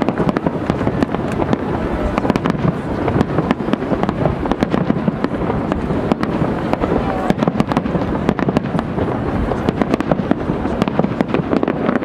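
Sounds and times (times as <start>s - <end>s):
booming rumble: 0.0s - 12.0s
fireworks cracking and popping: 0.0s - 12.0s.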